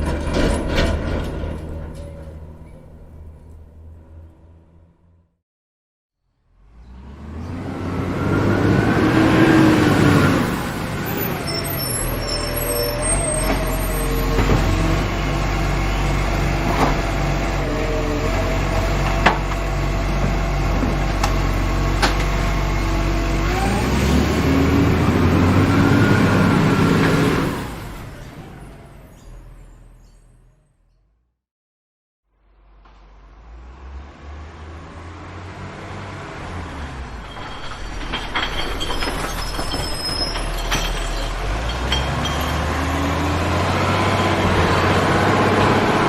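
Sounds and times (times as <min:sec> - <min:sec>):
road noise: 0:00.0 - 0:05.4, 0:06.3 - 0:31.2, 0:32.3 - 0:46.0
truck engine drone: 0:06.4 - 0:31.2, 0:32.4 - 0:46.0.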